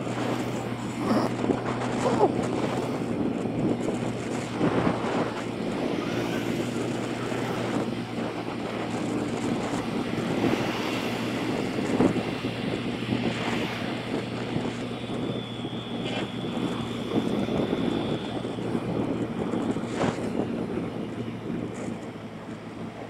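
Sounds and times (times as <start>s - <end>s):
motorbike engine running: 0.0s - 23.0s
wind buffeting microphone: 0.0s - 23.0s.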